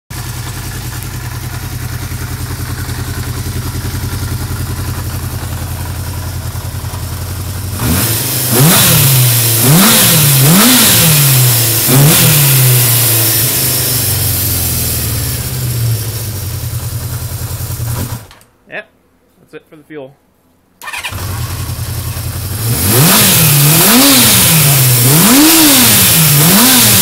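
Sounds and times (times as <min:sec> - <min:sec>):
motorcycle engine idling and revving: 0:00.1 - 0:18.4, 0:20.8 - 0:27.0.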